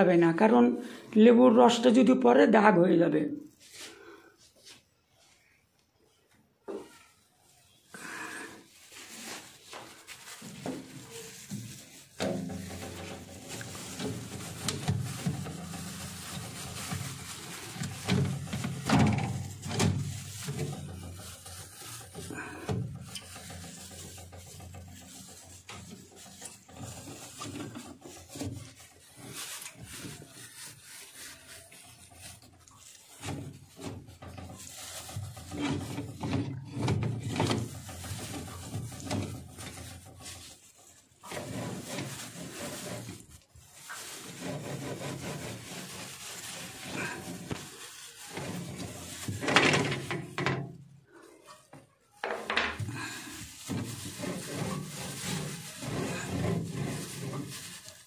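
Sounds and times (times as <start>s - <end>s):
wet rag wiping plastic shelves: 8.6s - 51.8s, 52.9s - 58.0s.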